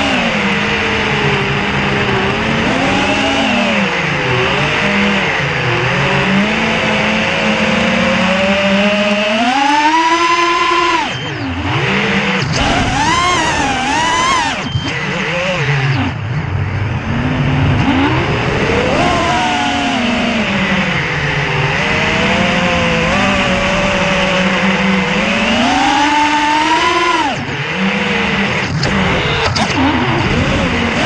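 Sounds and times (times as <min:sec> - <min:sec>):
quadcopter motors whining: 0:00.0 - 0:16.3, 0:17.2 - 0:31.0.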